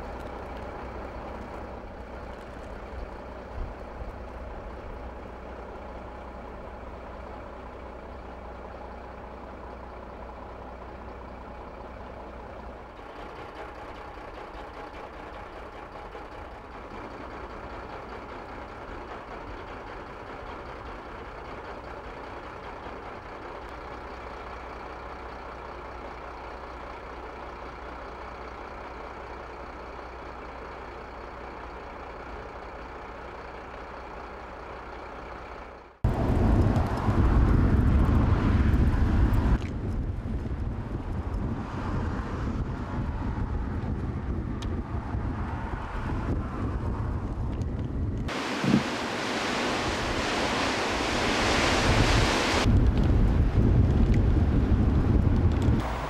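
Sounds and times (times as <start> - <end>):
diesel engine idling: 0.0 - 41.6, 42.5 - 56.0
outdoor noise: 0.0 - 56.0.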